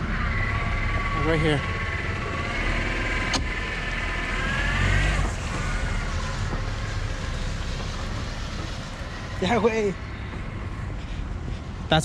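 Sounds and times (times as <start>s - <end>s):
high whine: 0.0s - 12.0s
low engine rumble: 0.0s - 12.0s.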